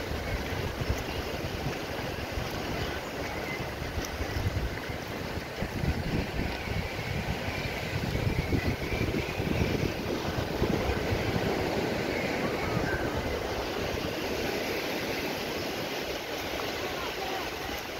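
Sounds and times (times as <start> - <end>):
surf breaking: 0.0 - 17.9
wind buffeting microphone: 0.0 - 17.9.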